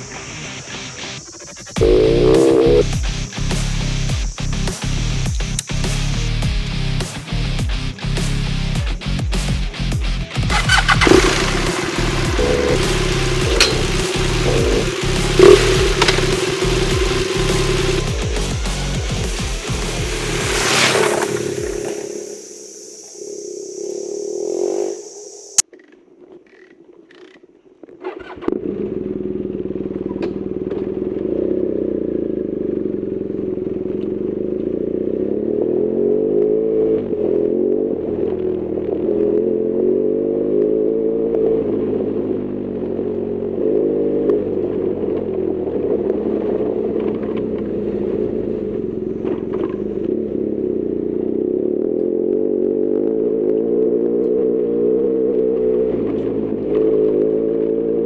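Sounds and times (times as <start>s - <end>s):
motorcycle engine running: 0.0s - 23.0s, 28.3s - 58.0s.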